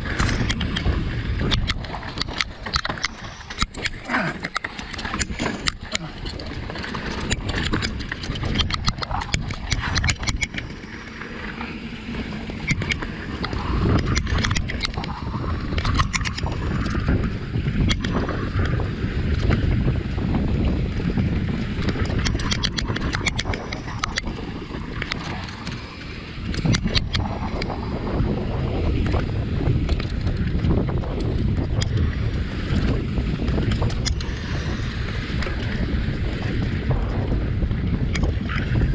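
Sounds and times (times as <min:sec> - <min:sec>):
bike rattling and clicking: 0:00.0 - 0:38.9
wind buffeting microphone: 0:00.0 - 0:38.9.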